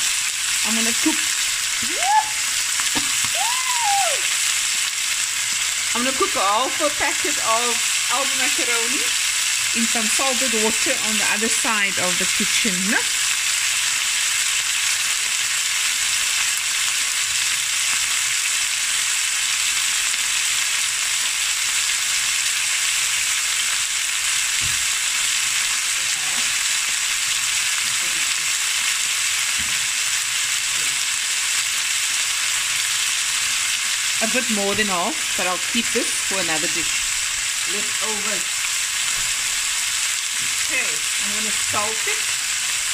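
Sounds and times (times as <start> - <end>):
chicken sizzling in a pan: 0.0 - 42.9.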